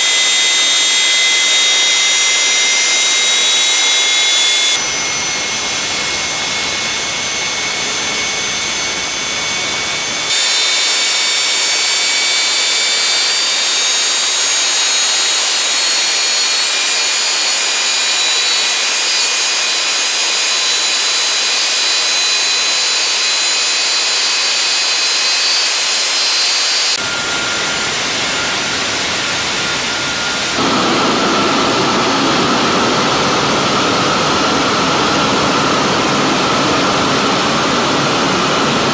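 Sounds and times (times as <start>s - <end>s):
gas turbine rushing and whining: 0.0s - 38.9s.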